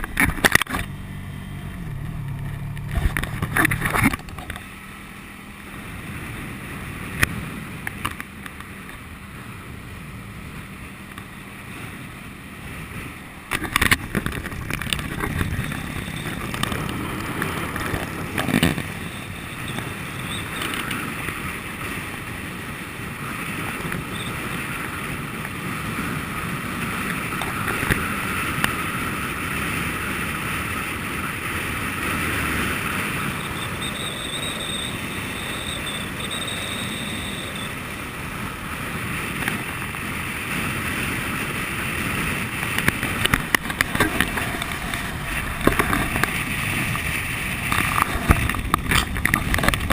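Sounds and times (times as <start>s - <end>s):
motorcycle engine at speed: 0.0s - 49.9s
wind rush on microphone: 0.0s - 49.9s.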